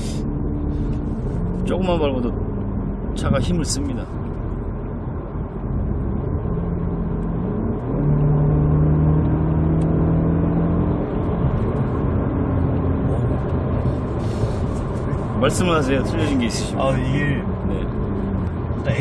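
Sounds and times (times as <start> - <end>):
car engine hum: 0.0 - 19.0
road noise inside car: 0.0 - 19.0.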